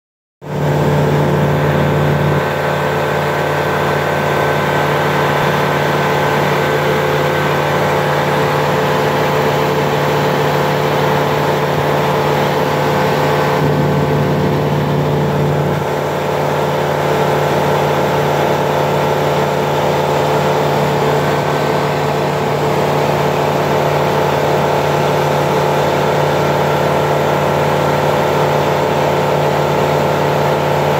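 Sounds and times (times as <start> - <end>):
aircraft engine and propeller drone: 0.5 - 30.9.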